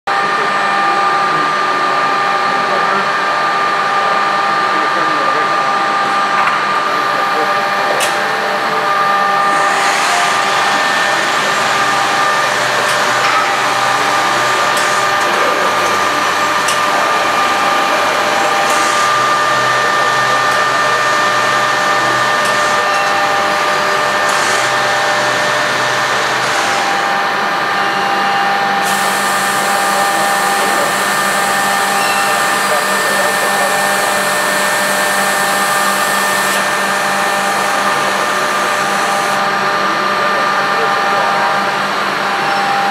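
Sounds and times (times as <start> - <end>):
machine noise: 0.1 - 42.9
spindle whine: 0.1 - 42.9.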